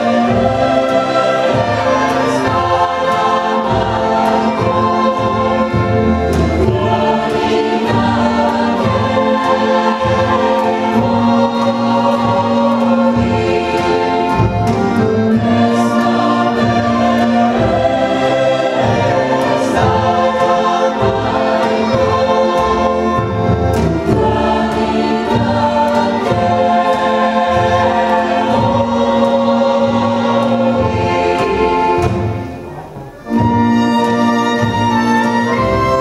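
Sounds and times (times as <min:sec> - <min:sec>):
folk band with fiddles: 0:00.0 - 0:36.0
mixed choir singing folk song: 0:00.0 - 0:36.0.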